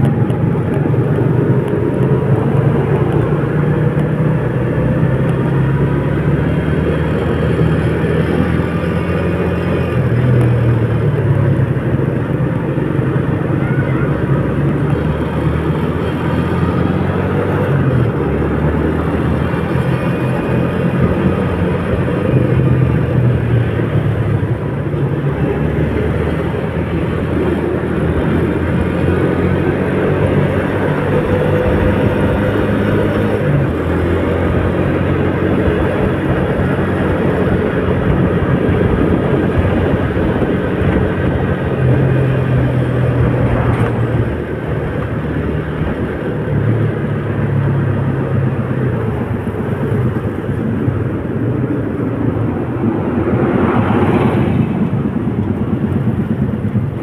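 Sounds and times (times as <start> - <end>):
vehicle engine running: 0.0 - 57.0
wet road noise: 0.0 - 57.0.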